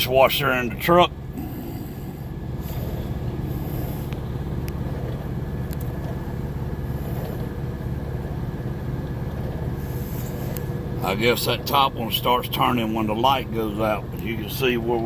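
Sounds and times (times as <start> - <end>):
truck diesel engine drone: 0.0 - 15.0.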